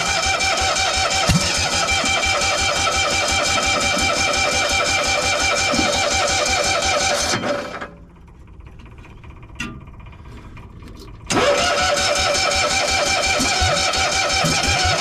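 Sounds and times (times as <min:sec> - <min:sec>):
engine cranking with starter whine: 0:00.0 - 0:15.0.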